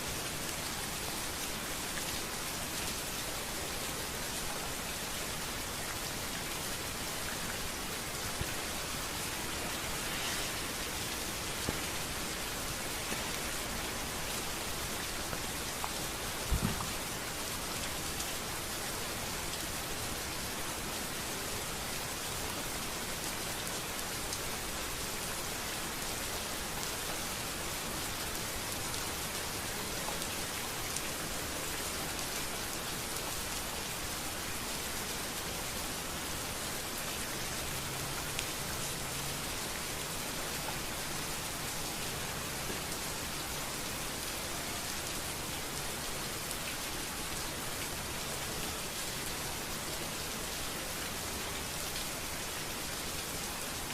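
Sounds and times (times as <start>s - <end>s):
steady rain on street: 0.0s - 53.9s.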